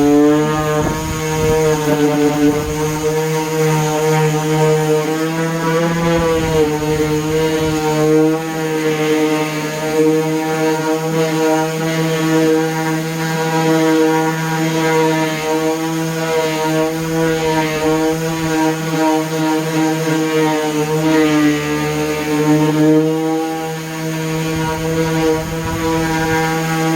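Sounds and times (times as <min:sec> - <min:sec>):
orbital sander on wood: 0:00.0 - 0:26.9.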